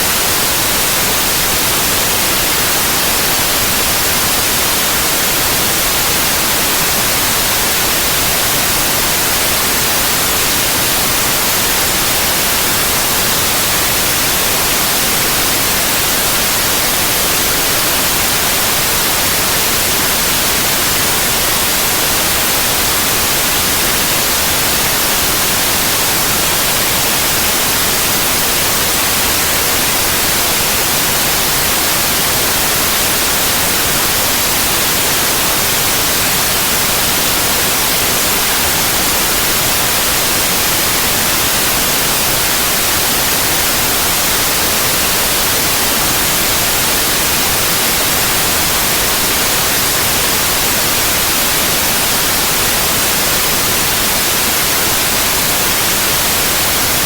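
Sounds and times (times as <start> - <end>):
loud white noise: 0.0 - 57.0.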